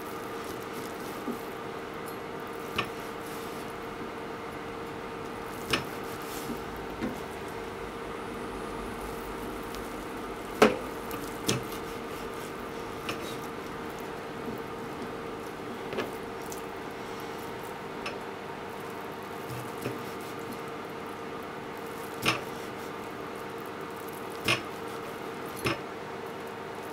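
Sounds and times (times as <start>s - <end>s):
steady hum: 0.0s - 23.3s.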